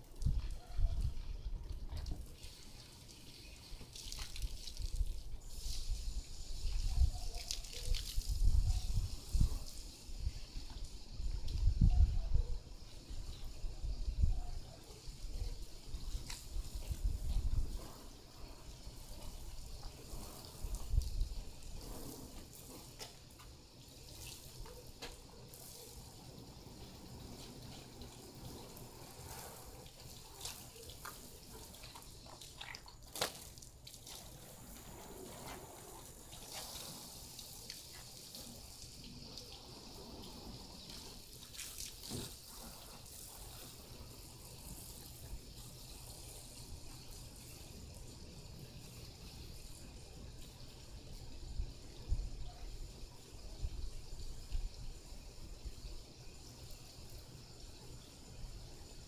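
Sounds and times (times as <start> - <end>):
garden hose water spattering: 0.0 - 59.0.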